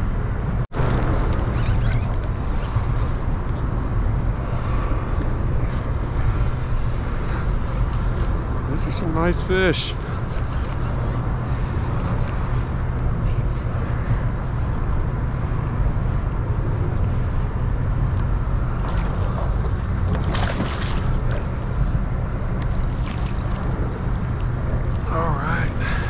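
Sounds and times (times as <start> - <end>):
steady low drone: 0.0 - 26.0.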